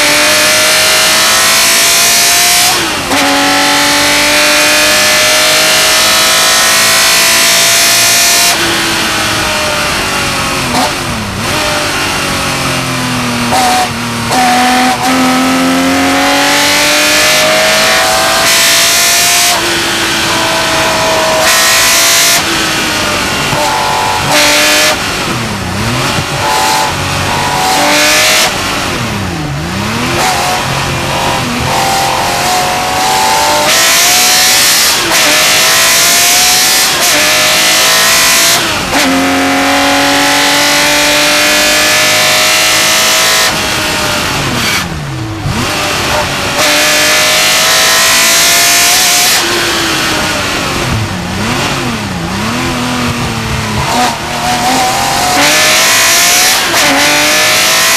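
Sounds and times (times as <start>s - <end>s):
racing engine revving and shifting: 0.0s - 57.9s.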